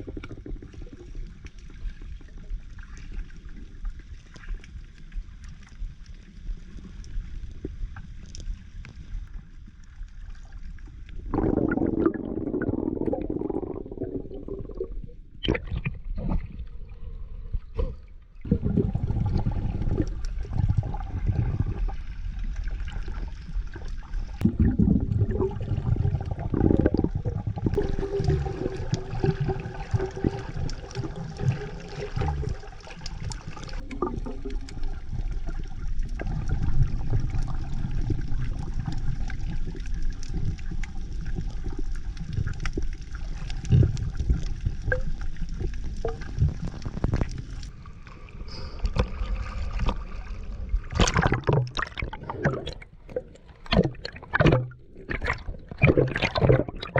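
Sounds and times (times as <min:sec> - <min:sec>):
water sloshing and gurgling: 0:00.0 - 0:56.9.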